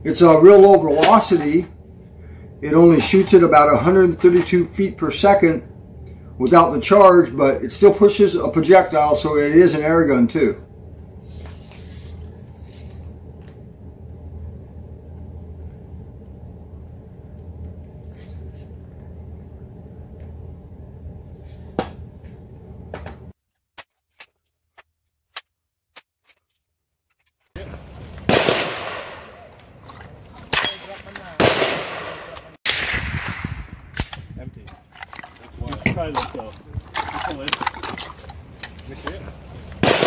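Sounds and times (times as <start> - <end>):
steady low hum: 0.0 - 23.4, 27.5 - 40.0.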